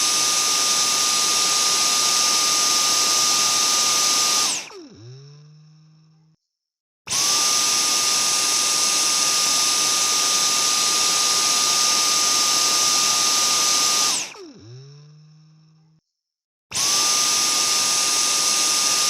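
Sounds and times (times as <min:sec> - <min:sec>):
vacuum cleaner motor whining: 0:00.0 - 0:05.8, 0:07.1 - 0:15.6, 0:16.7 - 0:19.0.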